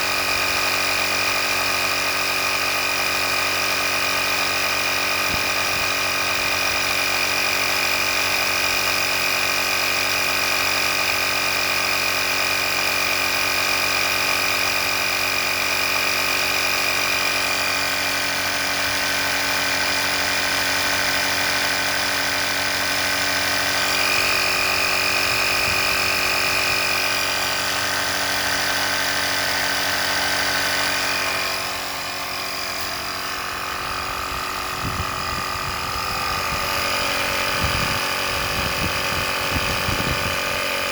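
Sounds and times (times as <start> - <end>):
air compressor motor hum: 0.0 - 40.9.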